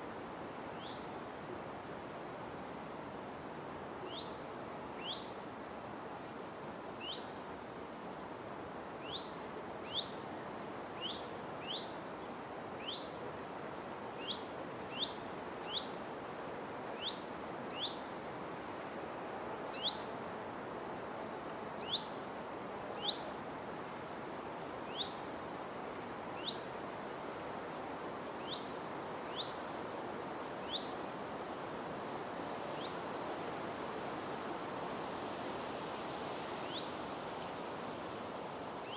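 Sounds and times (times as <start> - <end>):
background hiss: 0.0 - 38.9.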